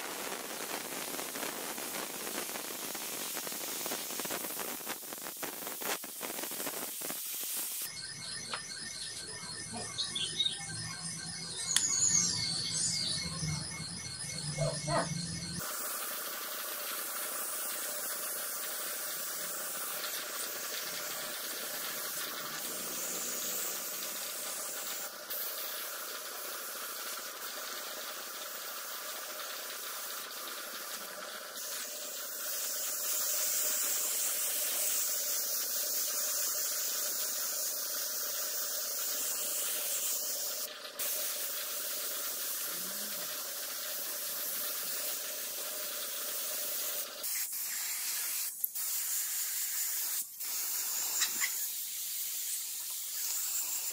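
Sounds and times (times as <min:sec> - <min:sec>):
spray gun hissing: 0:00.0 - 0:07.9, 0:15.6 - 0:53.9.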